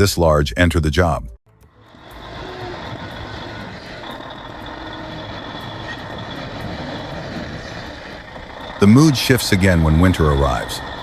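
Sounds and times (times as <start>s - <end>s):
heavy machine running: 1.7s - 11.0s.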